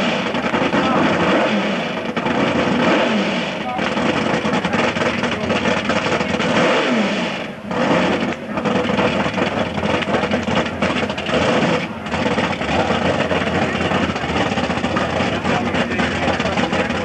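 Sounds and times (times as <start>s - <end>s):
racing engine running hard: 0.0s - 17.0s.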